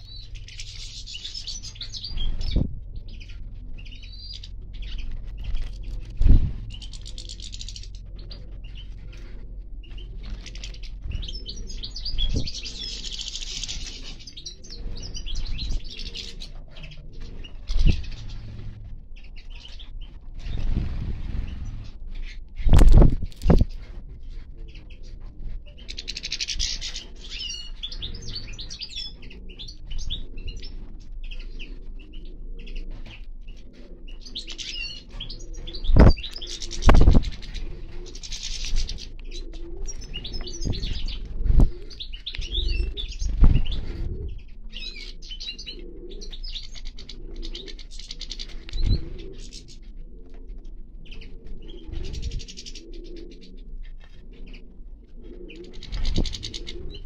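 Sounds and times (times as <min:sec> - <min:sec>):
finches twittering and chirping: 0:00.0 - 0:57.0.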